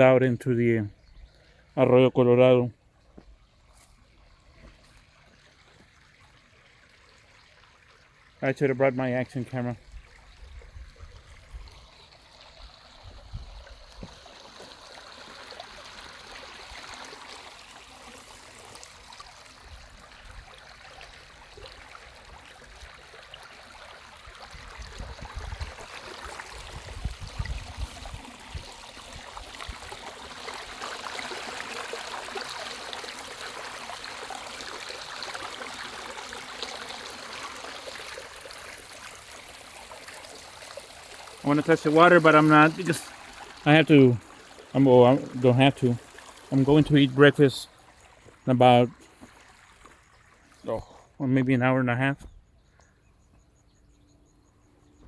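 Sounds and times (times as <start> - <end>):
water flowing and trickling: 2.7 - 52.0.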